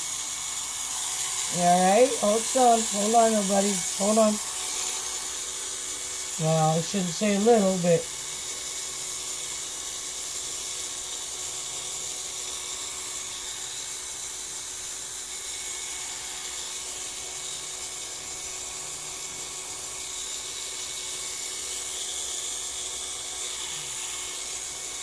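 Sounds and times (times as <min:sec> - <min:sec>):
electric hair clippers running: 0:00.0 - 0:25.0.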